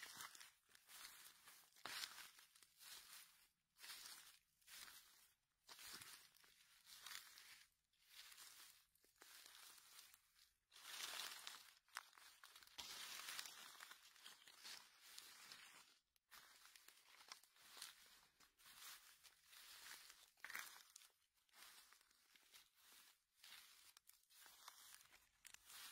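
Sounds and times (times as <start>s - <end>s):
dry leaves rustling: 0.0s - 6.4s, 10.8s - 25.9s.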